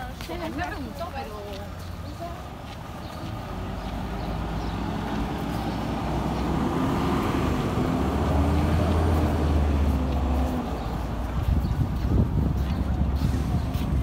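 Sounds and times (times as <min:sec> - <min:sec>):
background traffic: 0:00.0 - 0:14.0
bus engine droning: 0:01.8 - 0:14.0.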